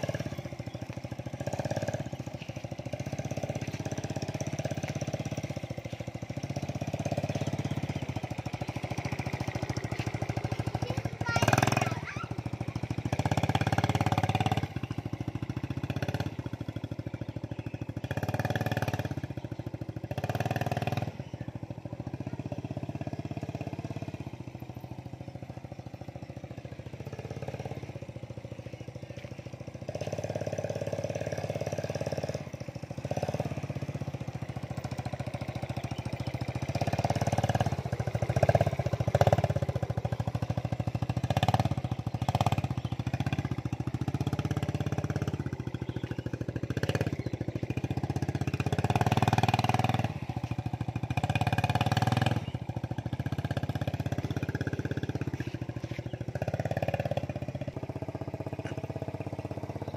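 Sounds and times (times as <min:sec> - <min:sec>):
small motorcycle engine revving: 0:00.0 - 0:59.9.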